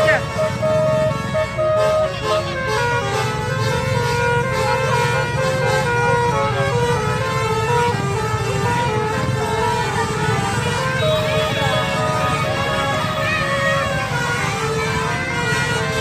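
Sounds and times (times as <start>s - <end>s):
bus engine rumble: 0.0s - 16.0s
multi-tone bus horn melody: 0.0s - 16.0s.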